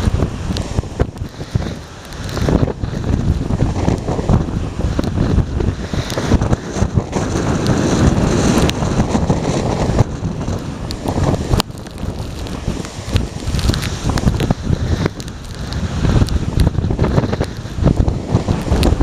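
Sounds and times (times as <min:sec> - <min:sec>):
heavy surf breaking: 0:00.0 - 0:19.0
strong wind buffeting microphone: 0:00.0 - 0:19.0.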